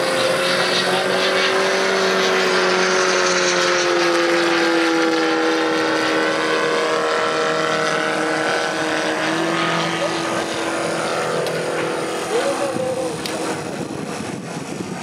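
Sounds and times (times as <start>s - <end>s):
model airplane engine running: 0.0s - 15.0s.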